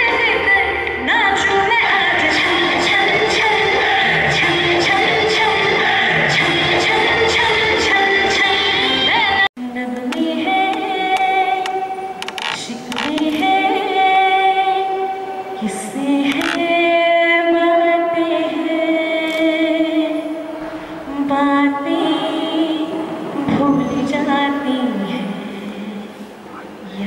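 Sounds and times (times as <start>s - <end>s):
woman singing into a microphone: 0.0s - 27.0s.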